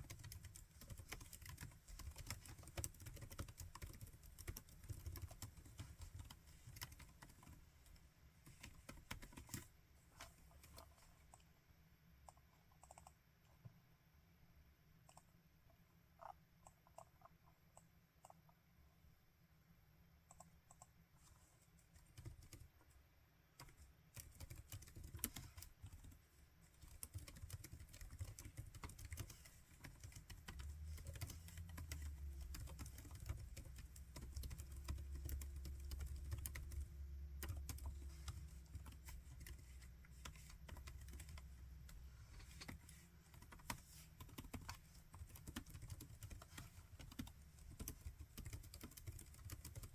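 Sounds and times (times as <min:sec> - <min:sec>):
laptop keyboard typing: 0:00.0 - 0:11.5, 0:12.2 - 0:13.2, 0:15.0 - 0:15.3, 0:16.2 - 0:18.6, 0:20.3 - 0:21.0, 0:22.0 - 0:22.7, 0:23.6 - 0:49.9.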